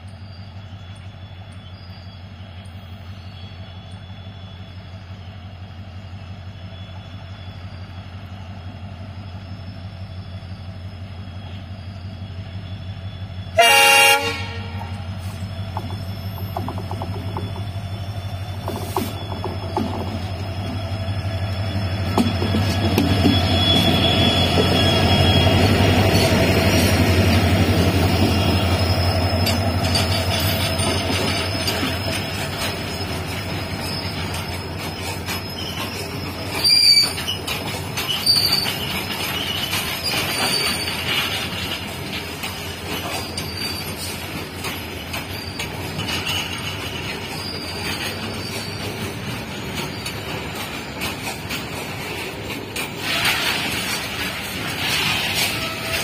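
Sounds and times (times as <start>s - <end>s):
diesel locomotive engine droning: 0.0s - 56.0s
freight wagons wheel-on-rail noise: 0.0s - 56.0s
loud wheel squeals: 0.1s - 51.7s.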